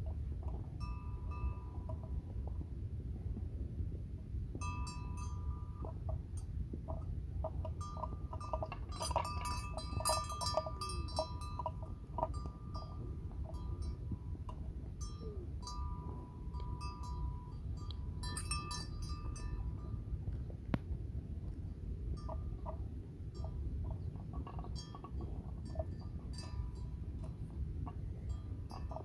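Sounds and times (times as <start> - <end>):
steady low rumble: 0.0 - 29.0
metal livestock bell clinking: 0.4 - 2.6, 4.6 - 20.3, 22.1 - 29.0.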